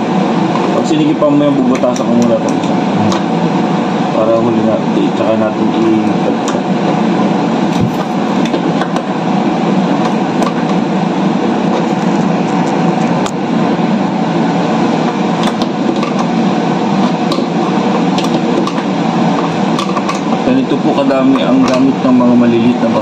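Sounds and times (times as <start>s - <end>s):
mechanical drone: 0.0s - 23.0s.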